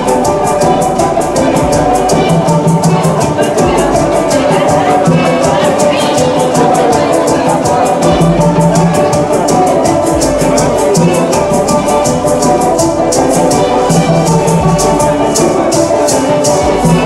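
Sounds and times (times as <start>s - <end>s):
deep hand drum beats: 0.0s - 17.0s
fast shaker rhythm: 0.0s - 17.0s.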